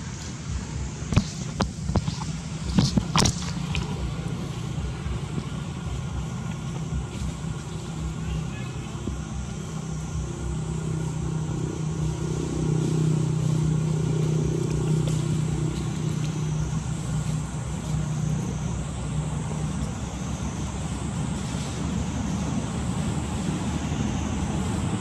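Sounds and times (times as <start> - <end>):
engine running with low hum: 0.0 - 25.0.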